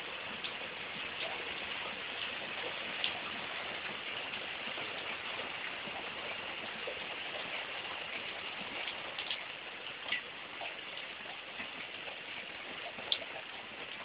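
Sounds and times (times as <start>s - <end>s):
heavy rain pouring: 0.0s - 14.0s
sharp drip ticks: 0.3s - 14.0s.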